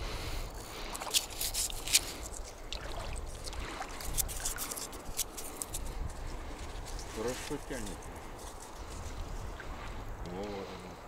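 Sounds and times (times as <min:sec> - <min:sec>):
low wind rumble: 0:00.0 - 0:00.9, 0:01.8 - 0:11.0.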